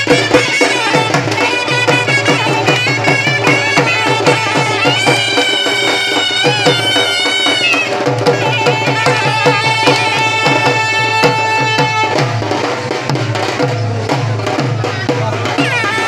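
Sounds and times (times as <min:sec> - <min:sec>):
barrel drums beating: 0:00.0 - 0:16.0
reedy wind instrument melody: 0:00.0 - 0:16.0.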